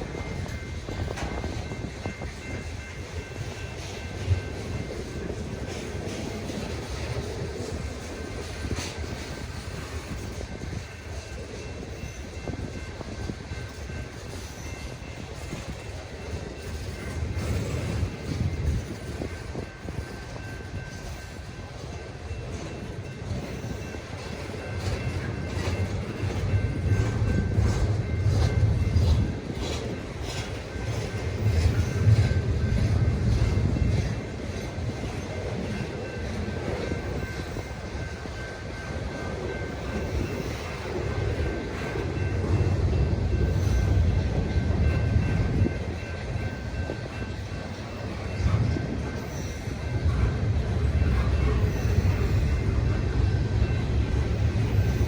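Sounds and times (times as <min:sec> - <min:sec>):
train cars rumbling on rails: 0:00.0 - 0:55.0.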